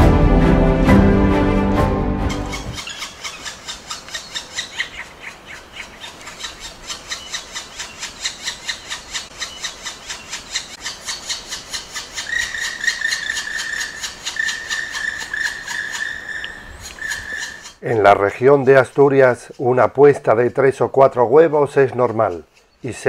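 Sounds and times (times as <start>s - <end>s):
woodpecker tapping on wood: 2.3s - 23.0s.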